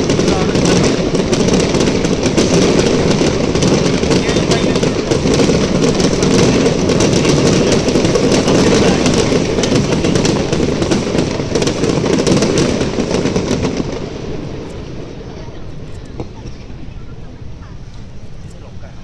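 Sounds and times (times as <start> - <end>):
fireworks bursting and crackling: 0.0 - 18.8.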